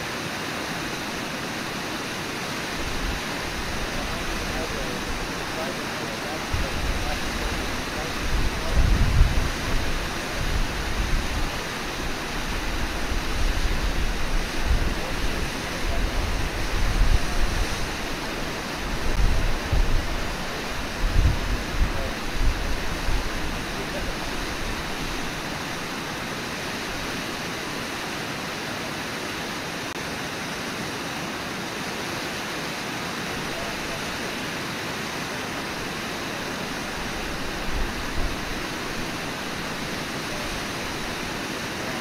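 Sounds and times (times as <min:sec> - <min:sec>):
whitewater rushing over falls: 0:00.0 - 0:42.0.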